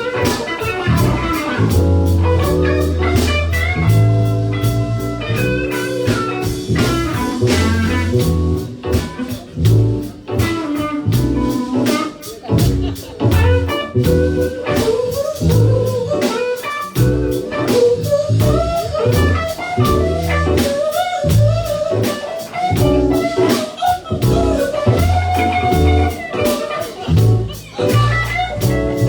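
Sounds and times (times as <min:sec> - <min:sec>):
band playing instrumental: 0:00.0 - 0:29.0.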